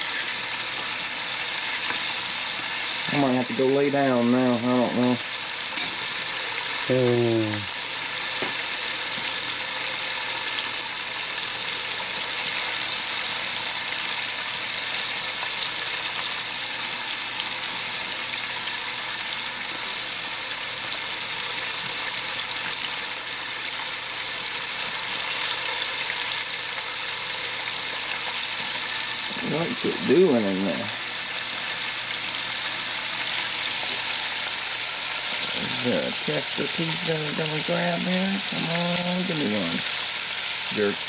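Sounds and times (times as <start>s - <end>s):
chicken sizzling in hot oil: 0.0s - 41.0s.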